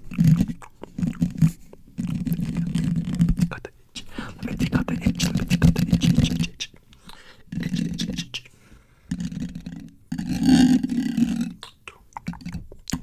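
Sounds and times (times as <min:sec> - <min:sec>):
wet mouth sounds: 0:00.0 - 0:13.0.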